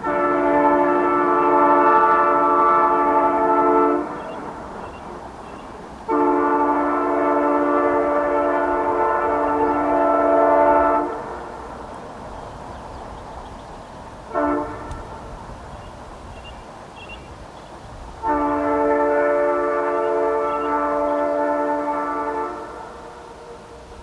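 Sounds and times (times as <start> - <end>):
locomotive air horn blasts: 0.0 - 12.2, 14.1 - 24.0
train running rumble: 0.0 - 24.0.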